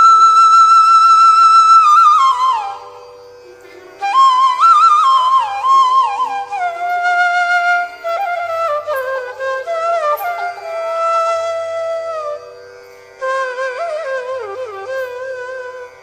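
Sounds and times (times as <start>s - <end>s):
flute melody over a drone: 0.0s - 3.2s, 3.9s - 12.6s, 13.2s - 16.0s.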